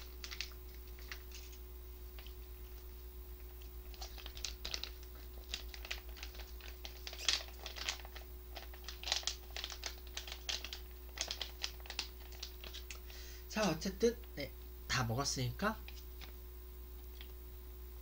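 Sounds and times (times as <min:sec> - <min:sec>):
plastic wrapper crinkling: 0:00.0 - 0:14.4, 0:15.8 - 0:16.4
electrical hum: 0:00.0 - 0:18.0.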